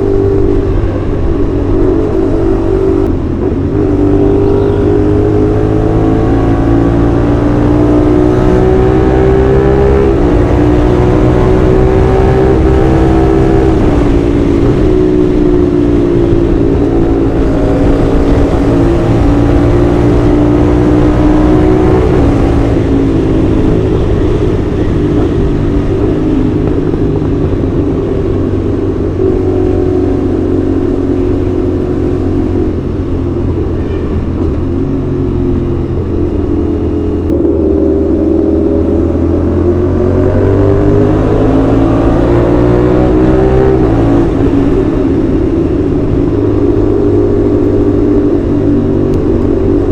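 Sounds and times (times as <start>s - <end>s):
motorcycle engine and exhaust: 0.0s - 49.9s.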